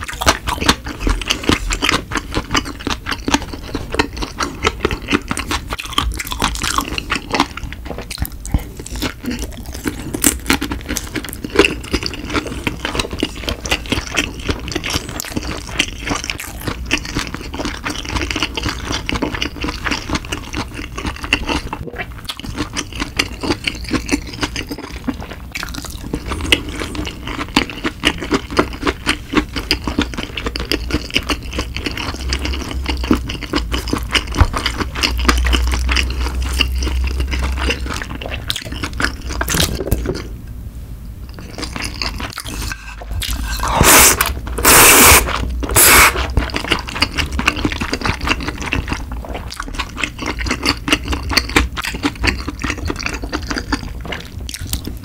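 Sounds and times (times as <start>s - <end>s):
wet chewing with mouth clicks: 0.0s - 40.3s, 41.3s - 55.0s.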